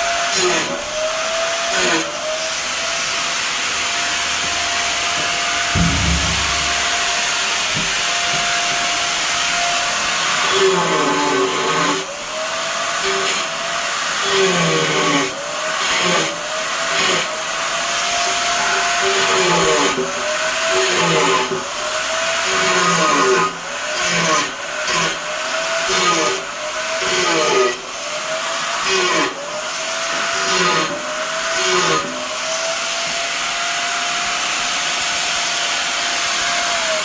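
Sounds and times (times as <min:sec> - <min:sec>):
electric saw cutting tile: 0:00.1 - 0:06.4, 0:10.2 - 0:37.0.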